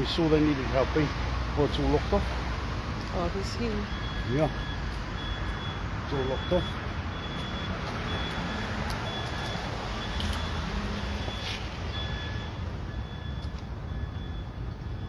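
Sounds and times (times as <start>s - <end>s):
reversing alarm beeping: 0.0s - 15.0s
vehicle engine rumble: 0.0s - 15.0s.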